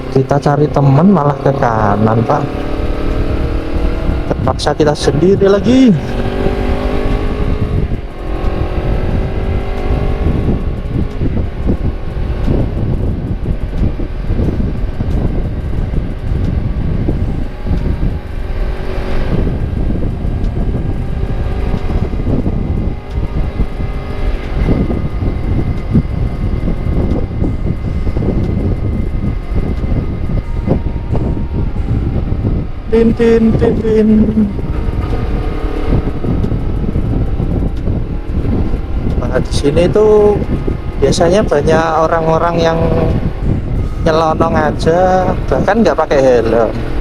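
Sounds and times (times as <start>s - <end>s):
motorcycle engine revving: 0.0s - 47.0s
wind and road noise: 0.0s - 47.0s.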